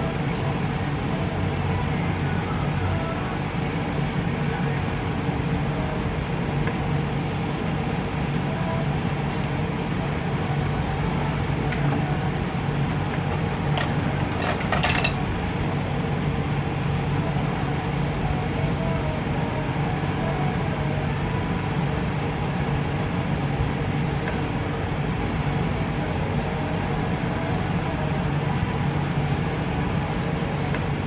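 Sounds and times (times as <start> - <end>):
low hum and rushing room noise: 0.0 - 31.0.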